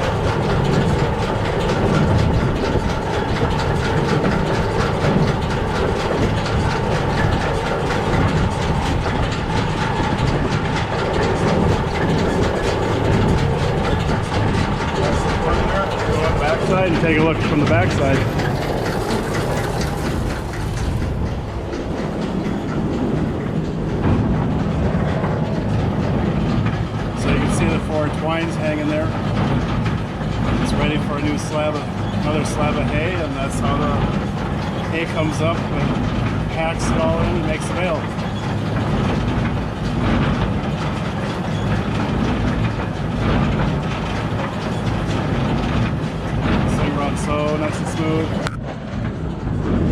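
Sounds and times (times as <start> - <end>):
baler mechanical clatter: 0.0 - 49.9
tractor engine: 0.0 - 49.9.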